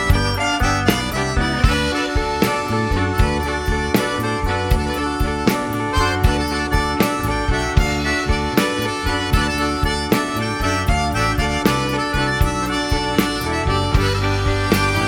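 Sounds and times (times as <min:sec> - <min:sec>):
accordion melody: 0:00.0 - 0:15.0
bass: 0:00.0 - 0:15.0
steady beat: 0:00.0 - 0:15.0.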